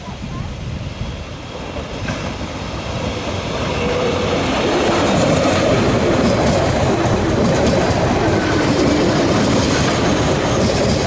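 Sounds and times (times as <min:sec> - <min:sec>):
train passing on rails: 0:00.0 - 0:11.0.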